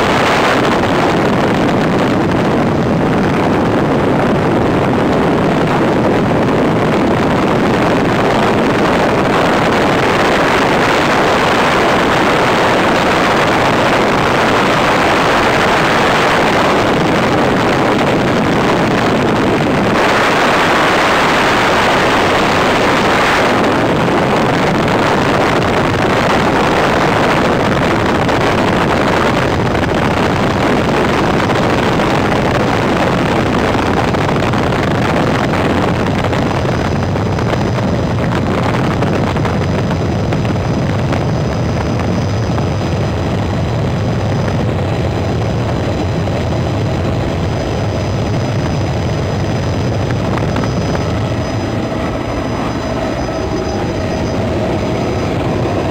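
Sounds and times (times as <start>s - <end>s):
faint high whine: 0.0s - 55.9s
helicopter drone from cabin: 0.0s - 55.9s.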